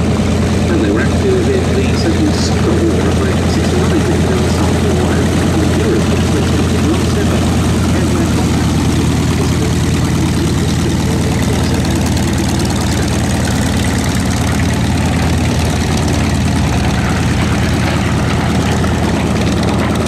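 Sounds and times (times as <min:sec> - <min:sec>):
radial aircraft engine running: 0:00.0 - 0:20.0.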